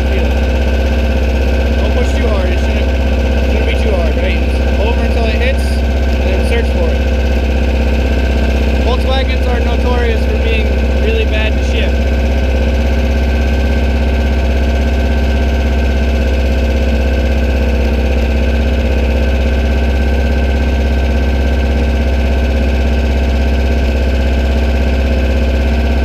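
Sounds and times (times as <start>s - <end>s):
buggy engine idling: 0.0s - 26.0s.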